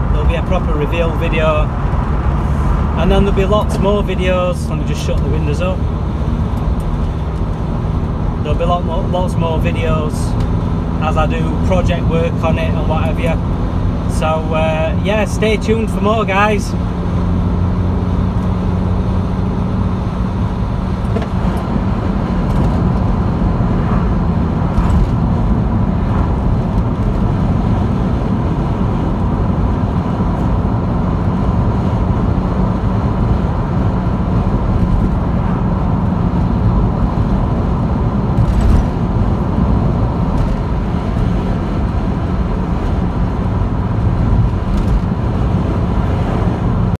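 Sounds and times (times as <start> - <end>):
car cabin road and engine rumble: 0.0 - 47.0.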